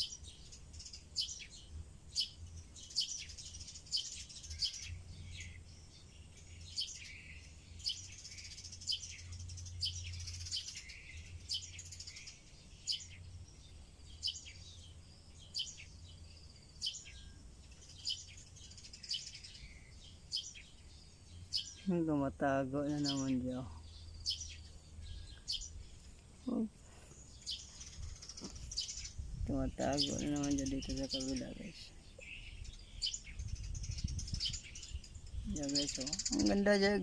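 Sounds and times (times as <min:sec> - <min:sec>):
birds chirping: 0:00.0 - 0:37.0
soft high bird chatter: 0:00.0 - 0:37.0.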